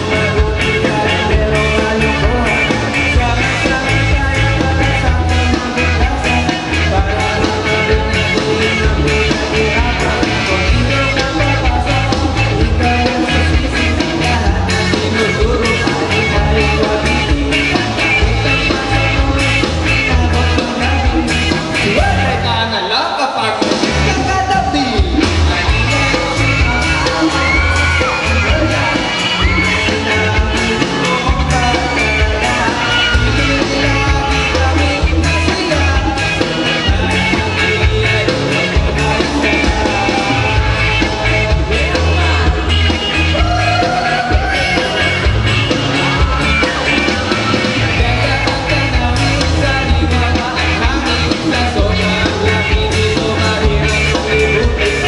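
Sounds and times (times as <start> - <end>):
lead singer singing: 0.0 - 55.0
live band playing amplified music: 0.0 - 55.0.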